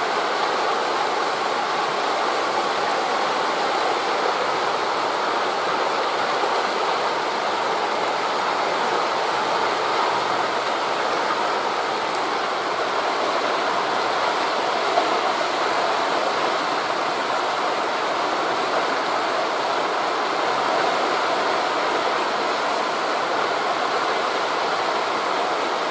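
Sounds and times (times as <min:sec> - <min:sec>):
distant surf: 0:00.0 - 0:25.8
wind rushing through leaves: 0:00.0 - 0:25.9.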